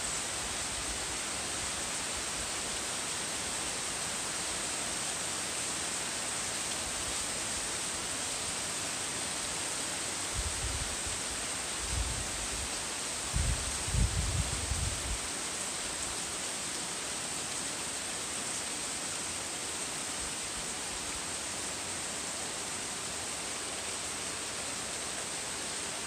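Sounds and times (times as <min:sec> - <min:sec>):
heavy rain on trees and lawn: 0:00.0 - 0:26.0.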